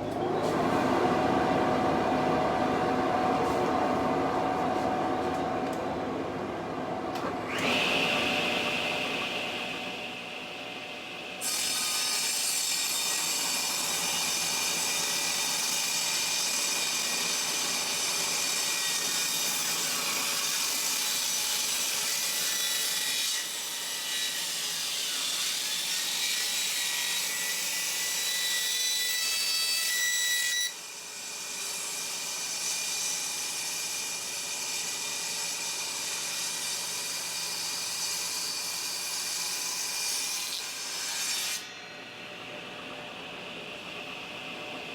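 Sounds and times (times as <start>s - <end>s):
table saw cutting wood: 7.2s - 44.9s.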